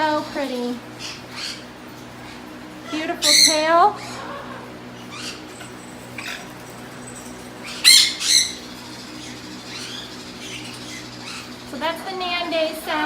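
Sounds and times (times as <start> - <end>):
parrot calling: 0.0 - 13.0.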